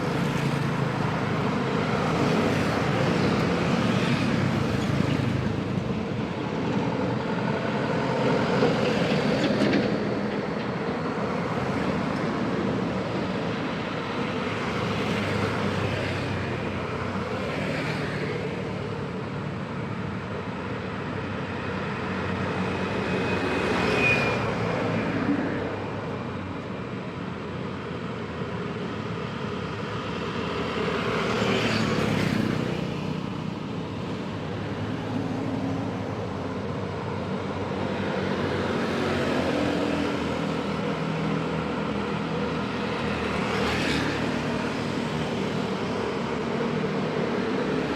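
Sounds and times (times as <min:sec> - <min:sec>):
busy road traffic: 0:00.0 - 0:47.9.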